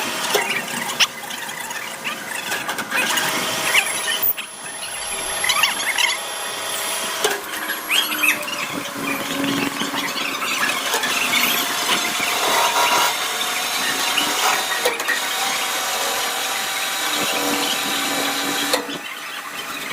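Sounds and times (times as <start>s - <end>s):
machine tool cutting metal: 1.6s - 19.9s.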